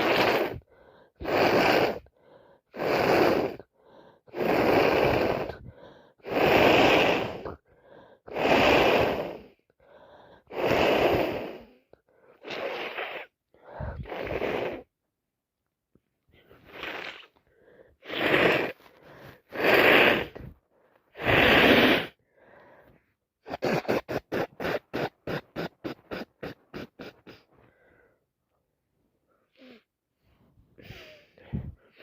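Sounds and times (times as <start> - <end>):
woman breathing wheezily: 0.0 - 14.9, 16.3 - 28.3, 29.3 - 32.0.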